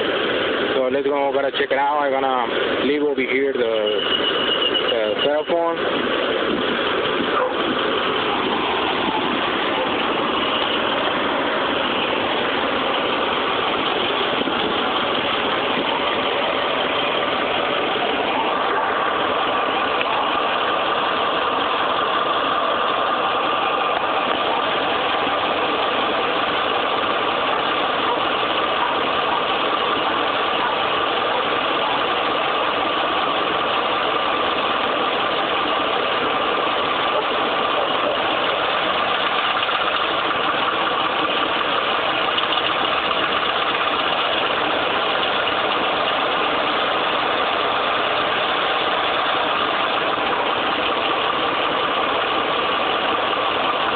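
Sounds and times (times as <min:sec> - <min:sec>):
engine running with ticking clatter: 0:00.0 - 0:53.9.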